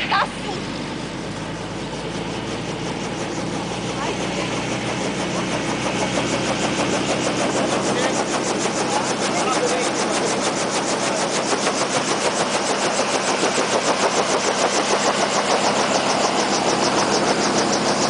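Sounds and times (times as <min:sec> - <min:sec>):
helicopter engine and rotor beat: 0:00.0 - 0:18.0.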